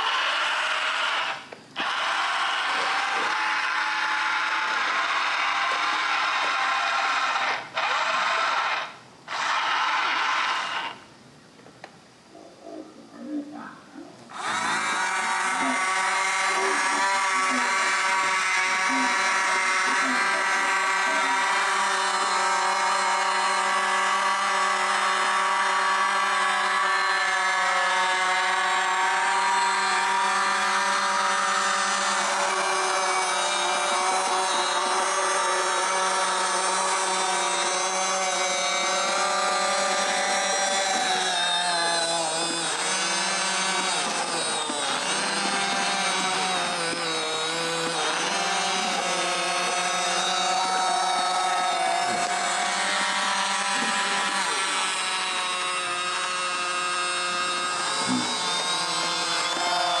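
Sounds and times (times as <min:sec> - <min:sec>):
electric motors whining: 0:00.0 - 0:11.2, 0:14.2 - 1:00.0.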